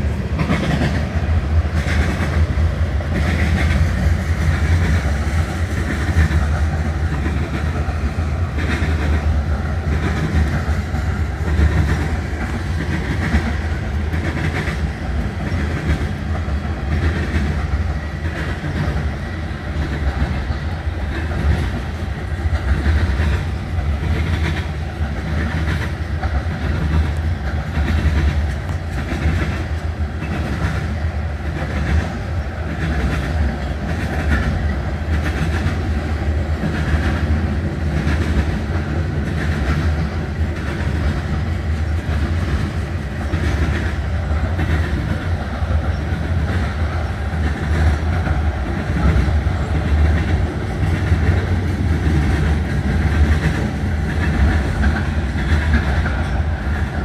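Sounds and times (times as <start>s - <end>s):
train cars rumbling past: 0.0s - 57.0s
wheels clicking over rail joints: 0.0s - 57.0s.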